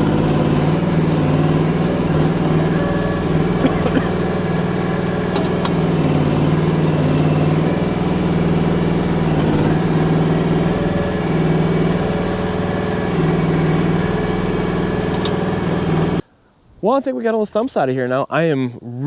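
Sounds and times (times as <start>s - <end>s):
excavator engine running: 0.0s - 16.2s.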